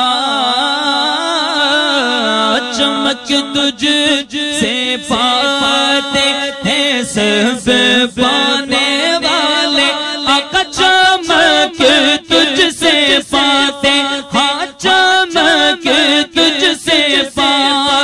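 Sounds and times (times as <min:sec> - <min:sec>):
person singing devotional chant: 0:00.0 - 0:18.0.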